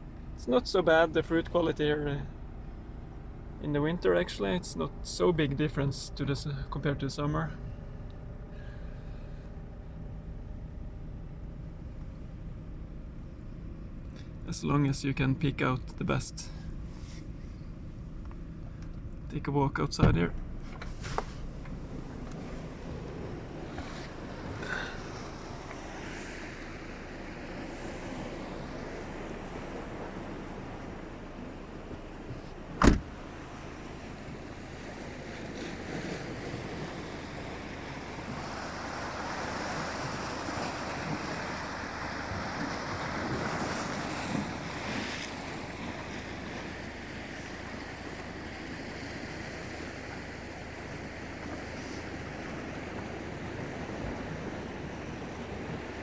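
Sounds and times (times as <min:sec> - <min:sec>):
ocean waves washing ashore: 0:00.0 - 0:56.0
wind: 0:00.0 - 0:56.0.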